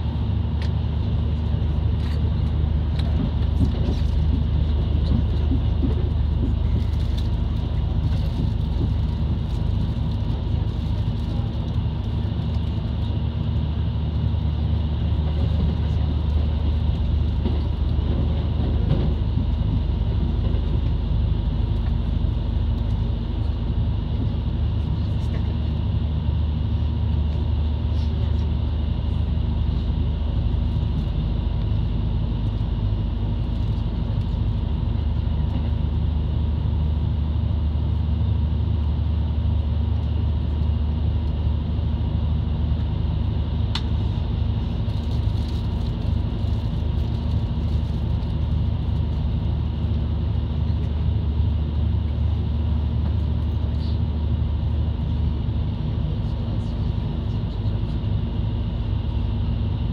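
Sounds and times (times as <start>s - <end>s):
railcar engine and wheels rumbling: 0.0s - 59.9s.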